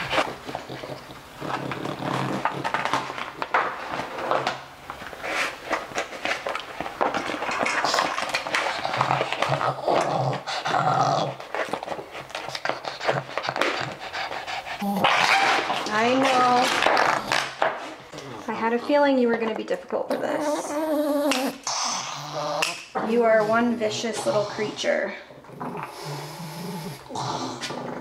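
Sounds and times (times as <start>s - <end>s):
dog growling: 0.0s - 3.3s, 7.5s - 19.3s, 20.1s - 28.0s.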